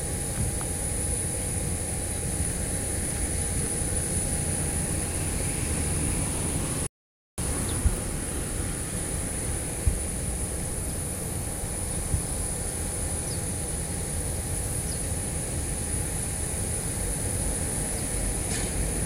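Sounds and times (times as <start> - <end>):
outdoor rumble and hiss: 0.0 - 19.0.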